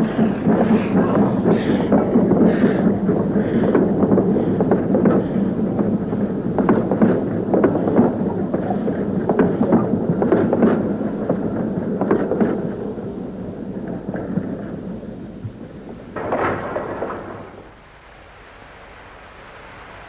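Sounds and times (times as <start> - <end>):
steam locomotive exhaust chuffing: 0.0 - 17.8.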